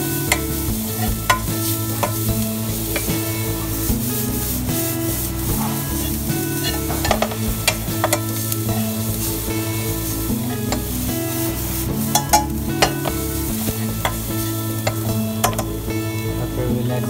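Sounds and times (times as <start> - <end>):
spatula scraping a pan: 0.0 - 15.8
food sizzling in hot oil: 0.0 - 16.1
background music: 0.0 - 17.0.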